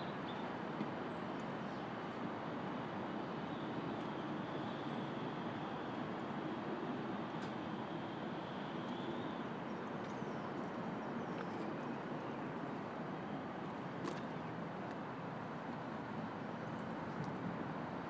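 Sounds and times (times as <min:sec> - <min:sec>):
city street traffic hum: 0:00.0 - 0:18.0.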